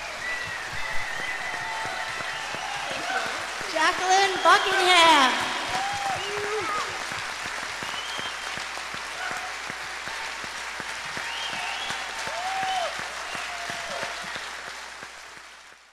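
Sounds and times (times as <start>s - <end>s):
dense hand-clapping: 0.0s - 15.9s.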